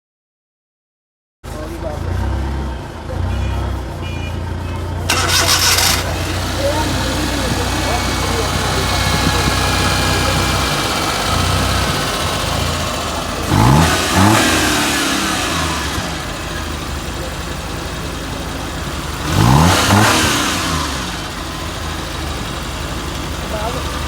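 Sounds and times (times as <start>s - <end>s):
car engine idling and revving: 1.4s - 24.0s.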